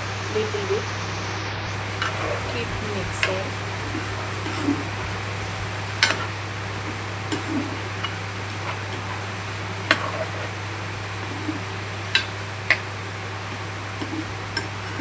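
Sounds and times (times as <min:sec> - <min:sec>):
steady low hum: 0:00.0 - 0:15.0
utensil scraping a cooking pan: 0:00.5 - 0:15.0.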